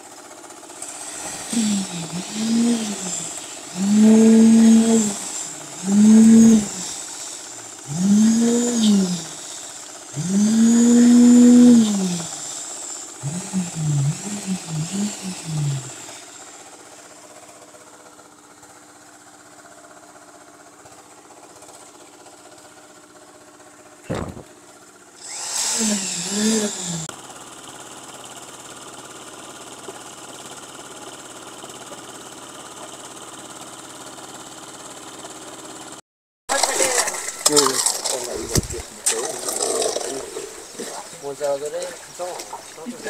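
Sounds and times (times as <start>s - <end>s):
concrete vibrator motor revving: 0.0s - 17.7s, 25.2s - 35.9s, 36.5s - 43.0s.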